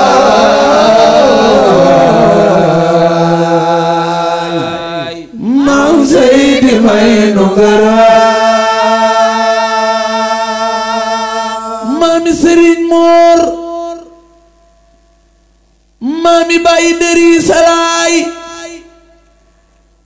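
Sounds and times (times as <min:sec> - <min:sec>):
person singing religious chant: 0:00.0 - 0:15.0, 0:16.0 - 0:19.7.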